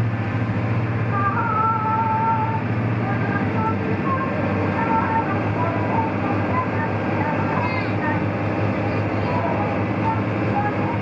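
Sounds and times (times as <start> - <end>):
boat engine droning: 0.0 - 11.0
water rushing along hull: 0.0 - 11.0.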